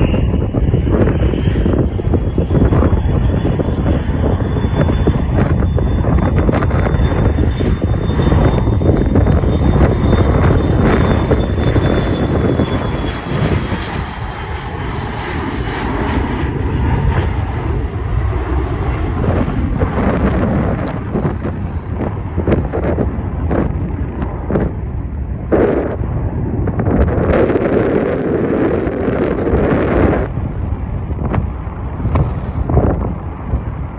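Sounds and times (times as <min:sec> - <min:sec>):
high engine whine: 0:00.0 - 0:33.9
jet engines rumbling: 0:00.0 - 0:33.9.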